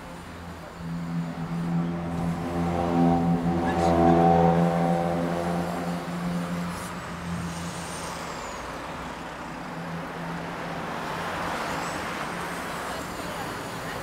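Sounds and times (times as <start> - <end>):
rush of tyre noise: 0.0 - 14.0
vehicles passing: 0.0 - 14.0.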